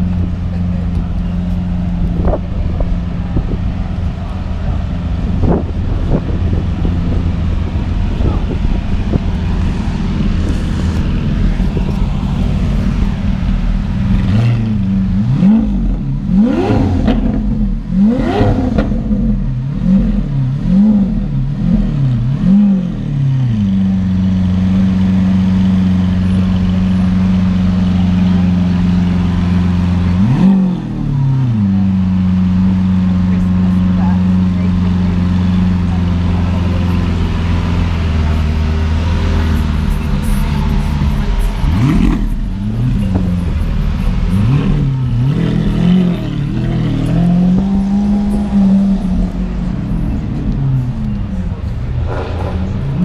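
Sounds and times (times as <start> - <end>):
sports car engine idling and revving: 0.0 - 53.0.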